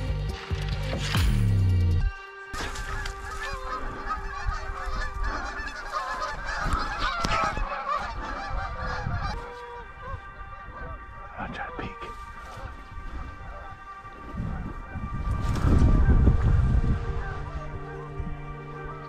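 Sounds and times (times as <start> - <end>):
geese honking in flight: 2.6 - 19.0.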